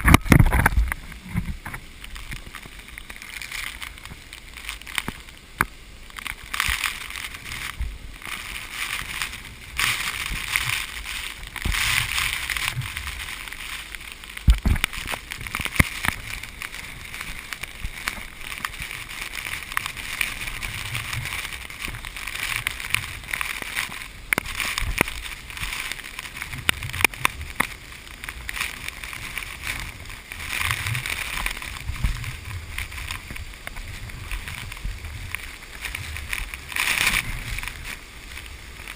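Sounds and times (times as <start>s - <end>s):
wind buffeting the microphone: 6.6s - 38.9s.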